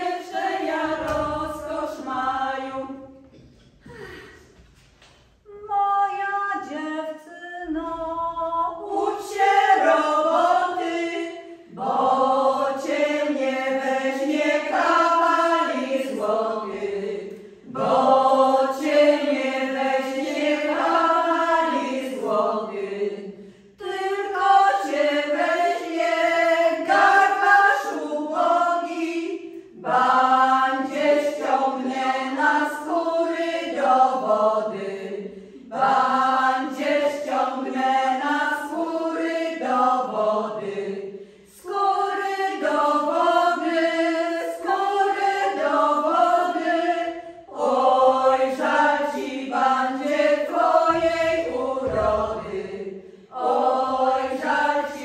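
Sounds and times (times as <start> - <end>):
women's group singing unaccompanied: 0.0 - 3.3, 5.5 - 55.0.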